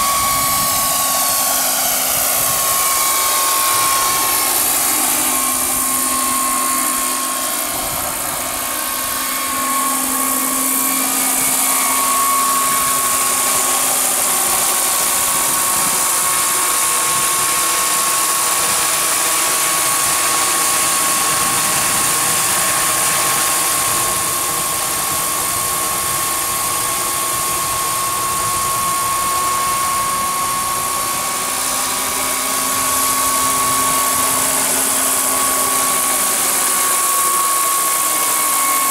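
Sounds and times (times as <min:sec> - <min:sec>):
model turbine whine: 0:00.0 - 0:38.9.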